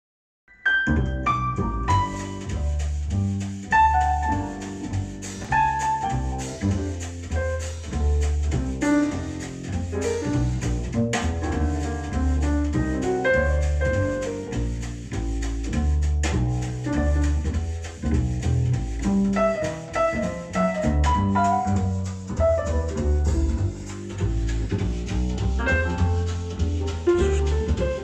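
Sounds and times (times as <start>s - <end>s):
jazz piano and bass through speakers: 0.5s - 28.0s.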